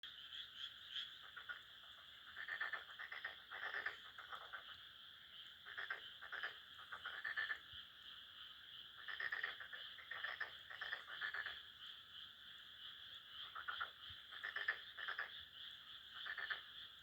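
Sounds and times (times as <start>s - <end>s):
frogs pulsed croaks: 0.0s - 17.0s
high-pitched frog chorus: 0.0s - 17.0s.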